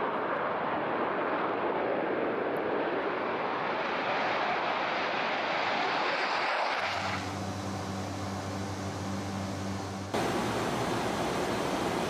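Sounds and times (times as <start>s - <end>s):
jet engines at takeoff: 0.0s - 12.0s.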